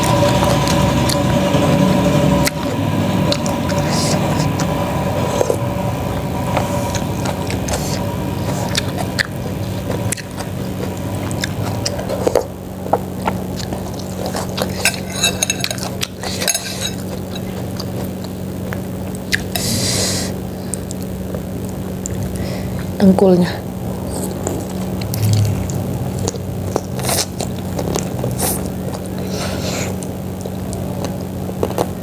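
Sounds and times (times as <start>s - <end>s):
mouth noises of eating: 0.0s - 32.0s
steady low hum: 0.0s - 32.0s.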